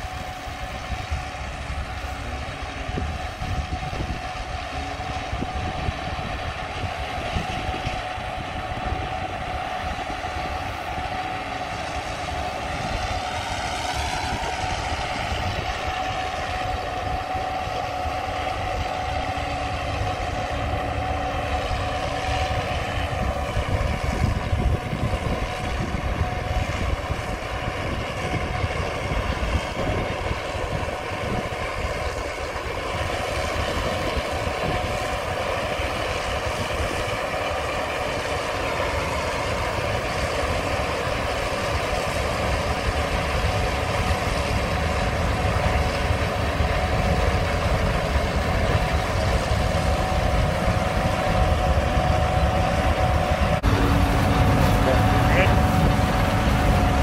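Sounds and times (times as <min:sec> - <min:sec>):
combine harvester drone and whine: 0:00.0 - 0:57.0.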